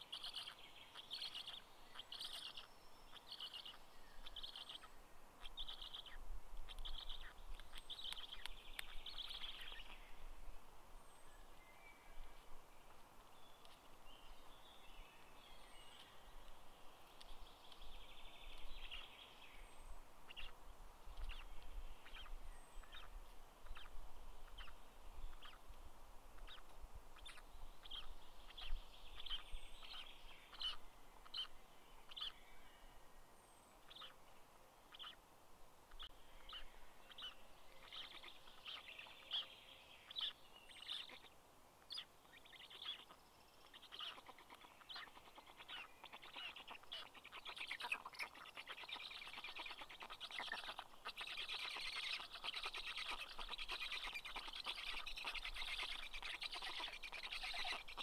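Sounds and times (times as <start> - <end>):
faint bird chirps: 0.0 - 35.2, 35.8 - 58.0
soft background hiss: 0.0 - 58.0.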